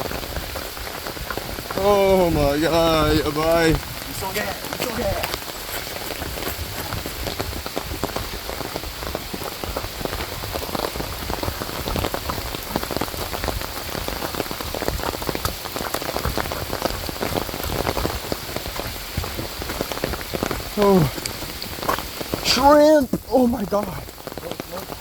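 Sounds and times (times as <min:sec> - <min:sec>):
rain pattering on an umbrella: 0:00.0 - 0:25.0.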